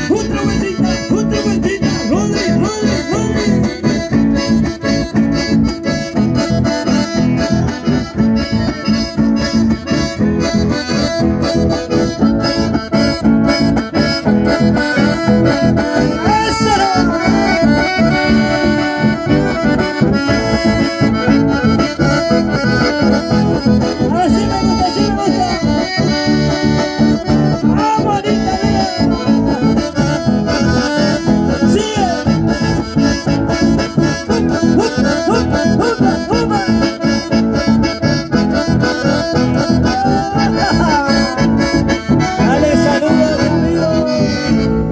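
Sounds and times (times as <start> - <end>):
accordions playing dance music: 0.0 - 44.9
acoustic guitar accompaniment: 0.0 - 44.9.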